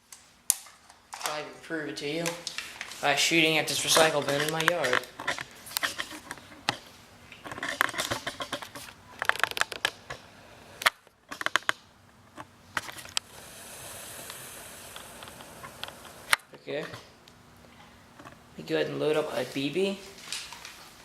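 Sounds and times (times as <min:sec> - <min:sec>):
soft steady hiss: 0:00.0 - 0:21.0.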